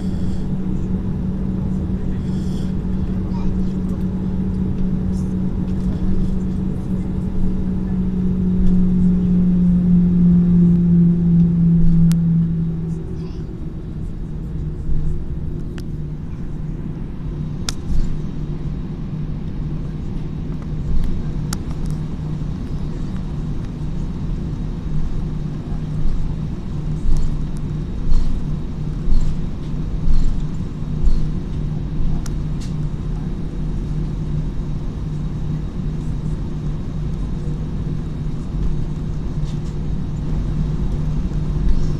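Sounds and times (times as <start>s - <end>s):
airliner cabin rumble: 0.0s - 41.9s
steady droning tone: 0.0s - 41.9s.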